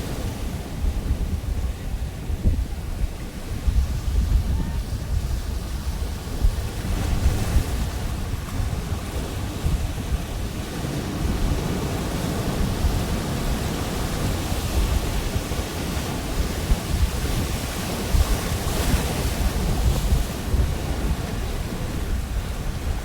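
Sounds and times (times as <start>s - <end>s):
waves breaking on beach: 0.0s - 23.0s
wind buffeting microphone: 0.0s - 23.0s.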